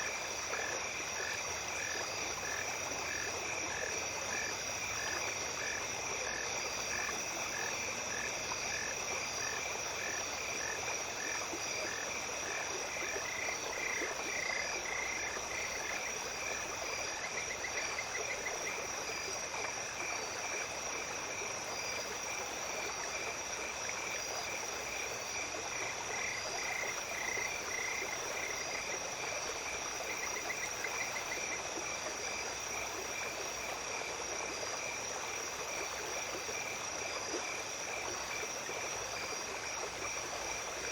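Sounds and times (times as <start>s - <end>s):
small stream flowing: 0.0s - 40.9s.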